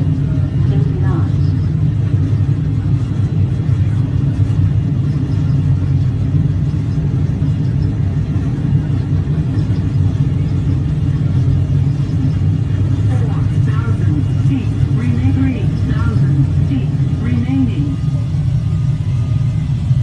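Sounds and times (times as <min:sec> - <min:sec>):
aircraft propeller engine drone: 0:00.0 - 0:20.0.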